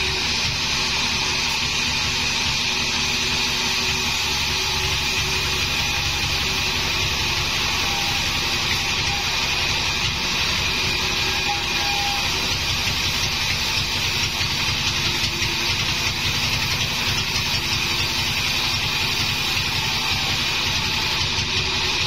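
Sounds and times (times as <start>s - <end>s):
band saw cutting timber: 0.0s - 22.0s.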